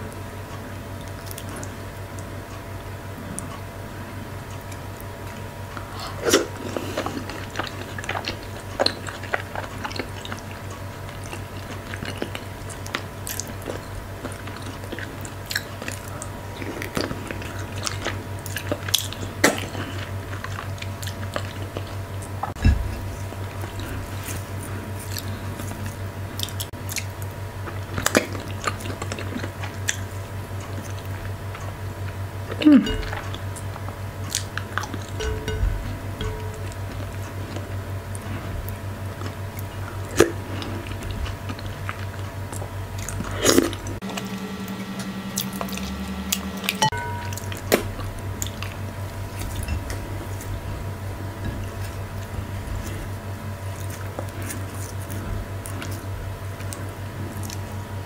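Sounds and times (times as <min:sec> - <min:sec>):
steady low hum: 0:00.0 - 0:58.0
wet chewing: 0:04.4 - 0:44.2, 0:45.0 - 0:58.0.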